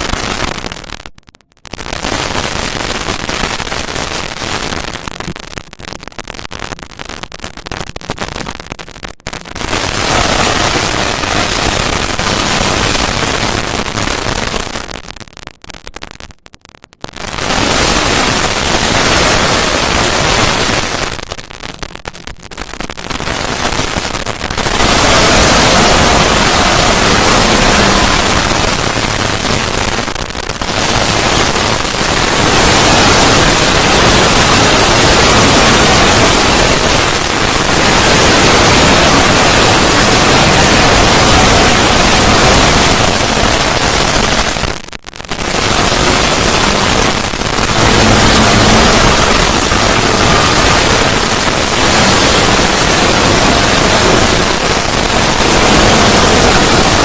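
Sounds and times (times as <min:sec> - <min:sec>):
dense static-like noise: 0:00.0 - 0:57.0.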